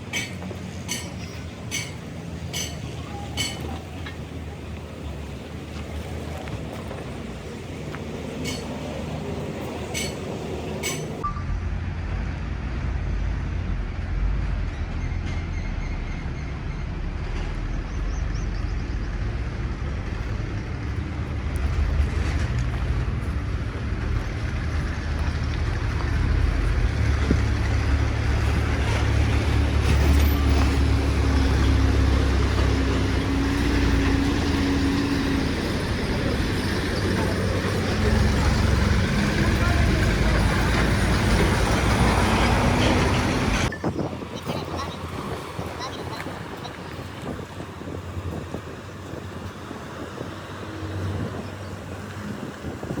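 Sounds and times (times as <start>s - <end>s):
heavy machine engine rumbling: 0.0s - 53.0s.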